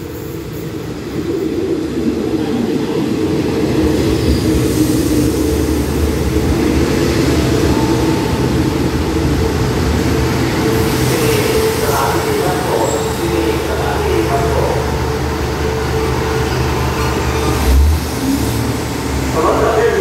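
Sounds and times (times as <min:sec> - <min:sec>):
diesel train engine droning: 0:00.0 - 0:20.0.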